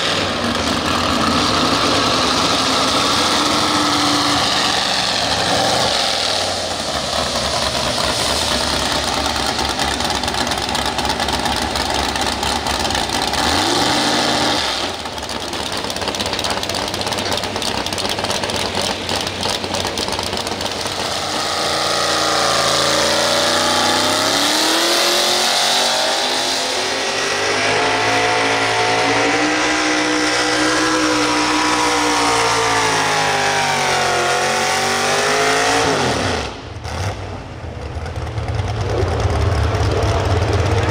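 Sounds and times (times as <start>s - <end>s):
truck engine running hard: 0.0s - 40.9s.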